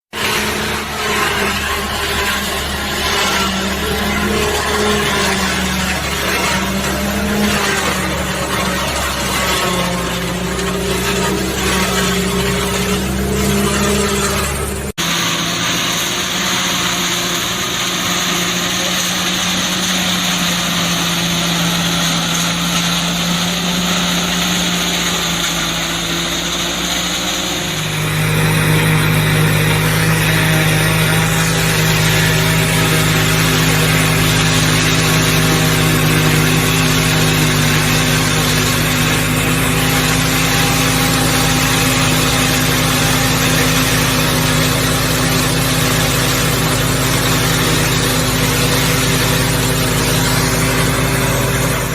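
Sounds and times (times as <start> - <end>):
harvester machinery running: 0.1 - 51.9.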